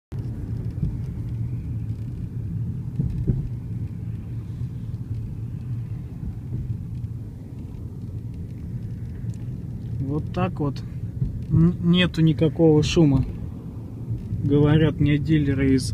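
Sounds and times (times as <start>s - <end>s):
car rumbling on the move: 0.1s - 15.9s.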